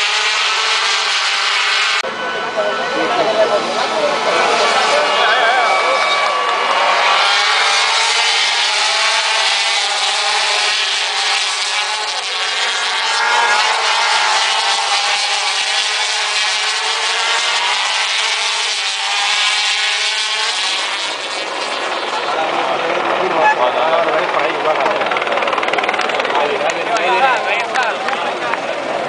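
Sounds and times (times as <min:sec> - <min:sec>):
racing motorcycle engines: 0:00.0 - 0:29.0.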